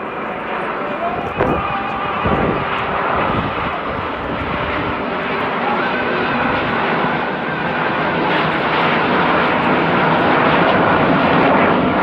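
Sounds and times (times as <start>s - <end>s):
airplane engines running: 0.0s - 12.0s.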